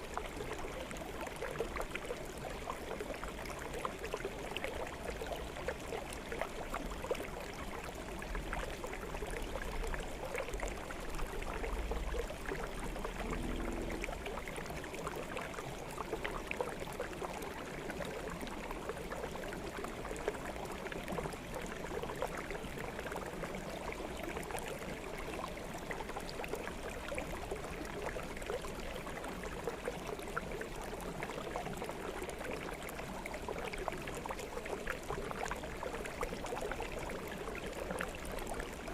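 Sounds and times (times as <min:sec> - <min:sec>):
stream gurgling over stones: 0:00.0 - 0:38.9.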